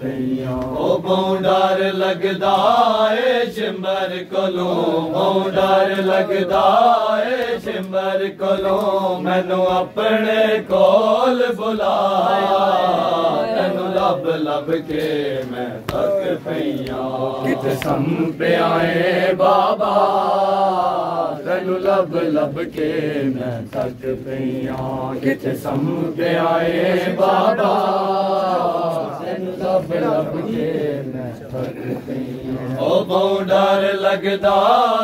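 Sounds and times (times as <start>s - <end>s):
man reciting in held phrases: 0.0s - 35.0s
men chanting a lament: 0.0s - 35.0s.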